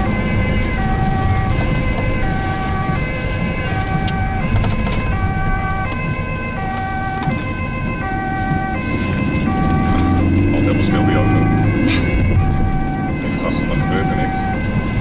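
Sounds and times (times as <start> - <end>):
ambulance two-tone siren: 0.0 - 15.0
engine and road noise: 0.0 - 15.0.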